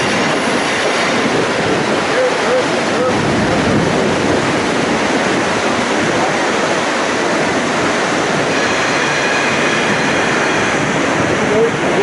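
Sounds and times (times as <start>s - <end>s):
train wheels on rails: 0.0s - 12.0s
wind rushing: 0.0s - 12.0s.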